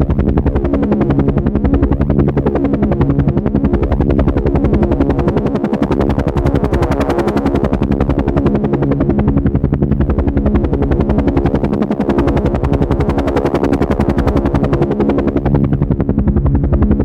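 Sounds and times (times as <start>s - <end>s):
helicopter engine hum: 0.0s - 17.0s
helicopter rotor chop: 0.0s - 17.0s.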